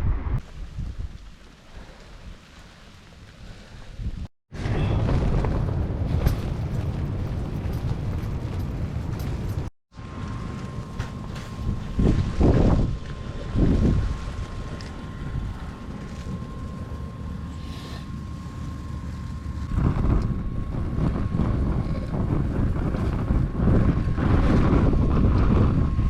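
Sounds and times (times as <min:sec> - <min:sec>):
strong wind buffeting microphone: 0:00.0 - 0:01.3, 0:03.8 - 0:09.7, 0:10.3 - 0:26.0.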